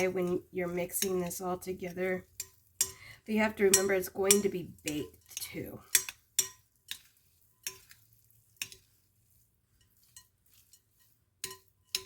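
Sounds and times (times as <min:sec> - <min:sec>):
spoon scraping thick mixture: 0:00.0 - 0:12.0.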